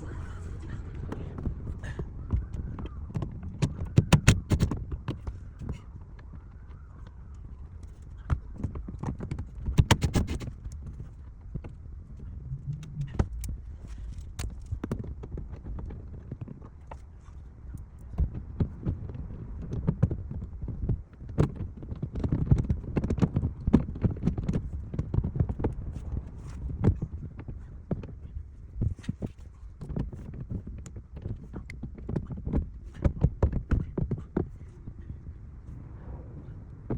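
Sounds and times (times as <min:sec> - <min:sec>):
low steady rumble: 0:00.0 - 0:21.8, 0:22.4 - 0:36.9.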